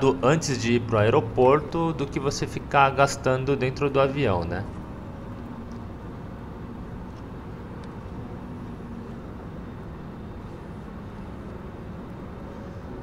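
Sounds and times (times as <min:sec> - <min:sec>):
airliner cabin rush of air: 0:00.0 - 0:13.0.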